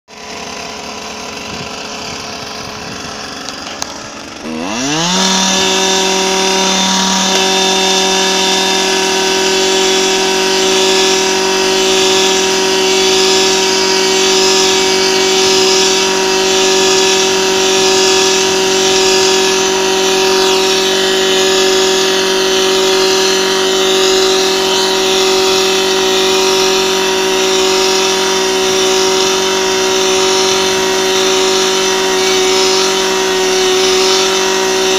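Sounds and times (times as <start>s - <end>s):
earth auger engine: 0.1s - 34.9s.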